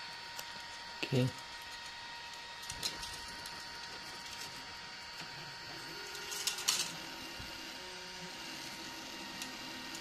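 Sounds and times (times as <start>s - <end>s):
printer fan whine and hiss: 0.0s - 10.0s.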